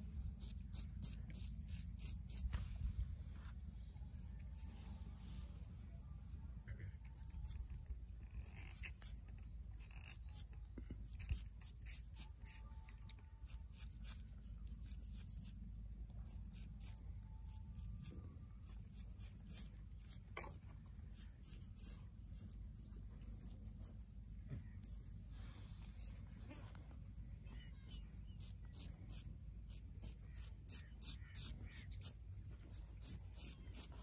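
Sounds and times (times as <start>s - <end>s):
razor rasping on stubble: 0.0s - 2.7s, 6.7s - 25.2s, 25.8s - 26.8s, 27.6s - 34.0s.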